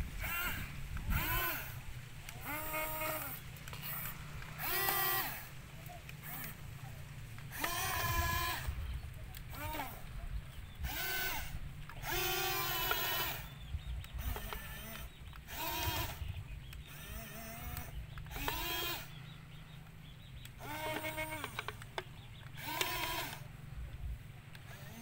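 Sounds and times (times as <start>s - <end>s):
toy electric motors whining: 0.0s - 25.0s.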